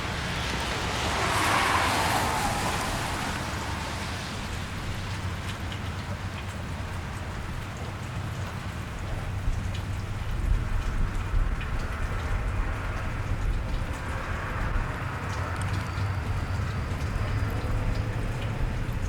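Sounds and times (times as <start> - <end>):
rain pattering on wet street: 0.0 - 19.0.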